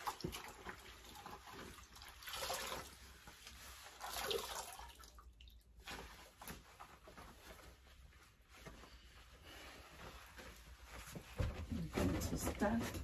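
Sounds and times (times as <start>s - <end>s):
damp cloth rubbing a washing machine: 0.0s - 4.7s, 5.8s - 13.0s.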